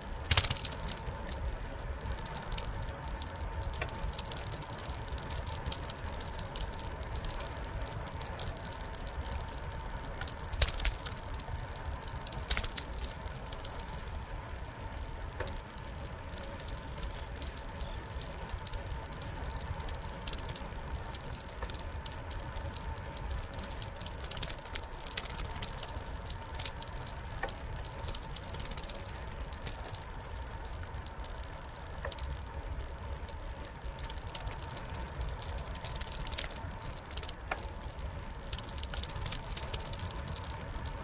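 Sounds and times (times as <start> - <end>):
bicycle tyre noise: 0.0 - 41.0
bike clicks and rattles: 0.0 - 41.0.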